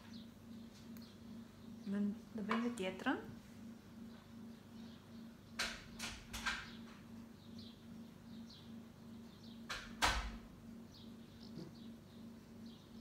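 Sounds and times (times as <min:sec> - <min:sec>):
faint high bird chirps: 0:00.0 - 0:02.8, 0:03.9 - 0:10.0, 0:10.7 - 0:13.0.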